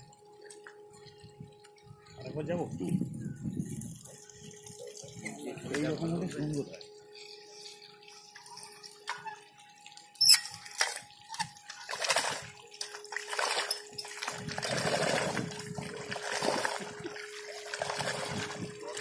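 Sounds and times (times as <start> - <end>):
water and mud sloshing: 2.1 - 19.0.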